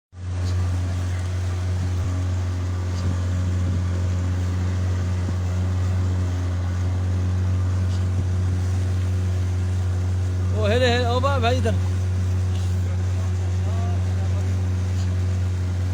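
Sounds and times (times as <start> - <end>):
motorboat engine droning: 0.2 - 15.9.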